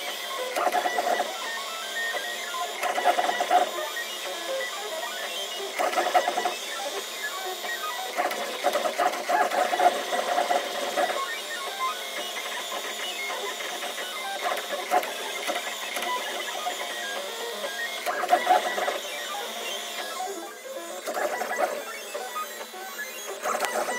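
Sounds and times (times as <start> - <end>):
stepper motors whirring and whining: 0.0 - 23.9.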